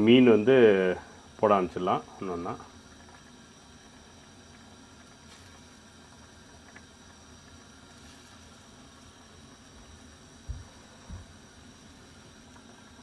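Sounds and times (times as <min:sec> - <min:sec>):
curry bubbling in a pan: 0:00.0 - 0:13.0.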